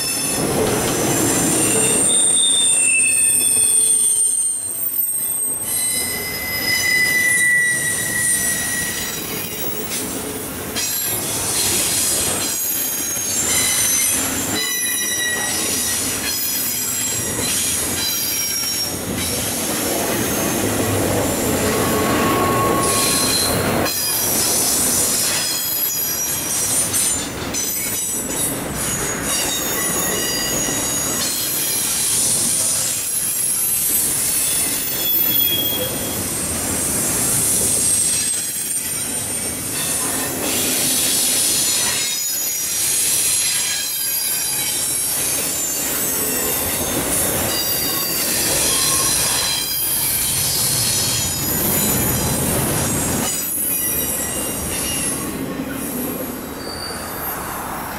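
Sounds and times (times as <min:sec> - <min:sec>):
steel wheels rumbling on rail: 0:00.0 - 0:57.9
high-pitched wheel squeal: 0:01.1 - 0:10.1, 0:10.8 - 0:19.0, 0:19.7 - 0:36.2, 0:36.9 - 0:57.8.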